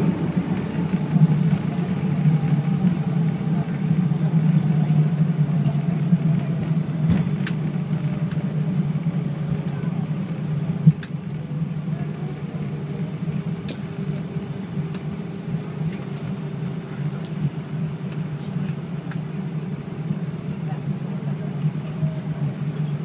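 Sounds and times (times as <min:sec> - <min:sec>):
airliner cabin engine drone: 0:00.0 - 0:23.0.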